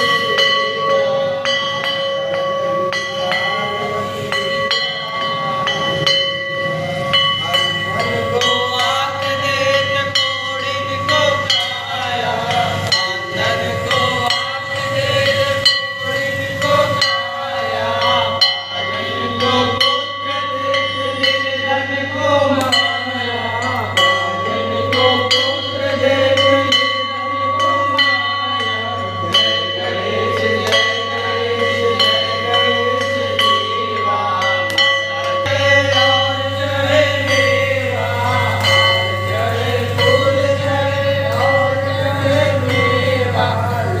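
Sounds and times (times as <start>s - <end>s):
bell ringing: 0.0s - 44.0s
group singing a hymn: 0.0s - 44.0s.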